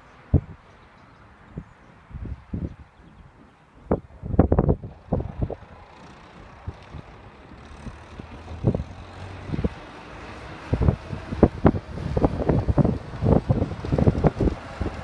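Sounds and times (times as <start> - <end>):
wind on microphone: 0.2 - 0.7, 1.4 - 15.0.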